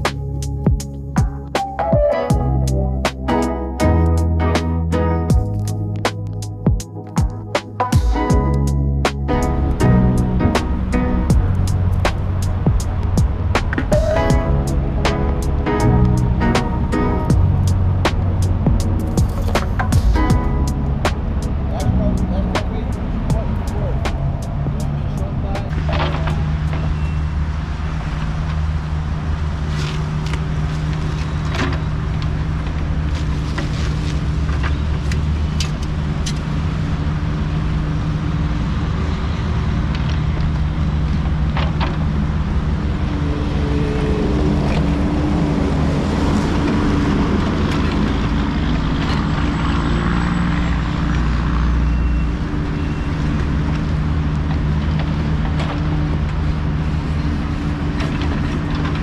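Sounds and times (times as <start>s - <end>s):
excavator diesel engine running: 6.4s - 59.0s.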